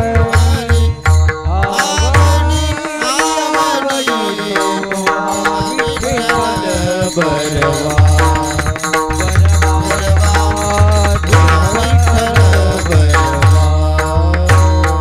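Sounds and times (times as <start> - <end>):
deep hand drum beating: 0.0 - 3.8, 4.5 - 15.0
devotional melody: 0.0 - 15.0.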